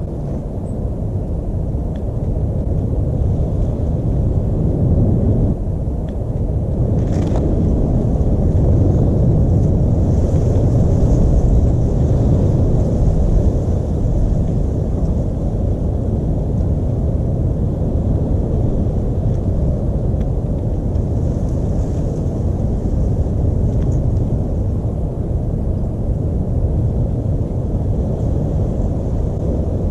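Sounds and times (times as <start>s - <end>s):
steady low rumble: 0.0s - 29.9s.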